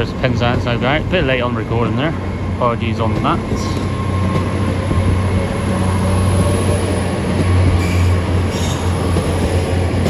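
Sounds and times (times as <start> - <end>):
train engine drone: 0.0 - 10.0.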